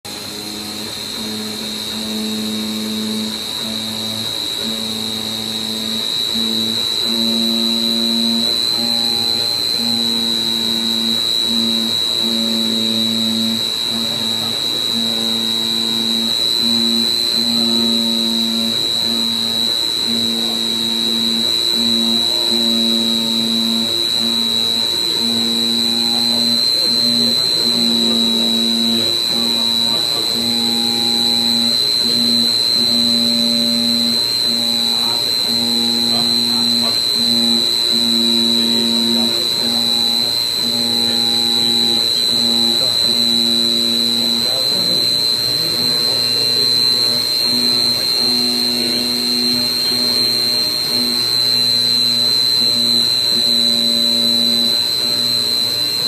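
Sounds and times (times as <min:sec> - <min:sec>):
high-pitched whine: 0:00.0 - 0:56.0.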